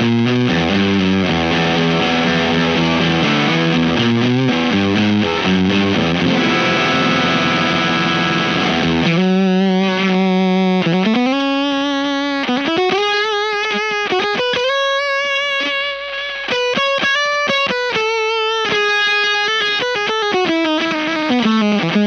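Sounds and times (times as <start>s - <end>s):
fuzzy electric guitar: 0.0s - 22.0s.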